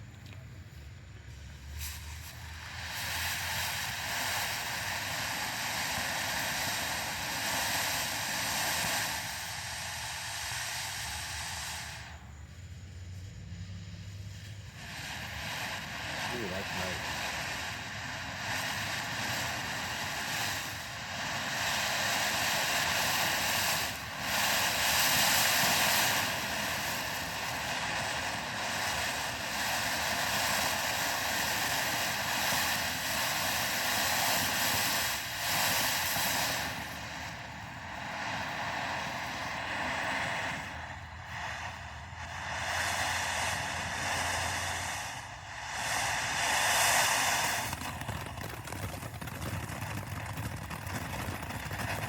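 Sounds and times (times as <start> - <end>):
firework fountain hissing: 0.0 - 52.0.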